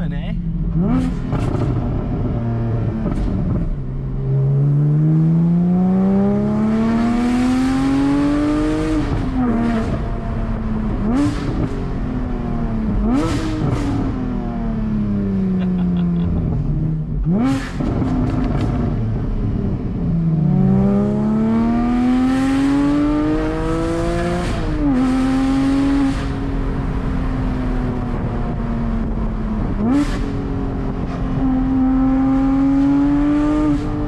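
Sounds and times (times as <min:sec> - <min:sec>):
sports car engine revving: 0:00.4 - 0:34.0.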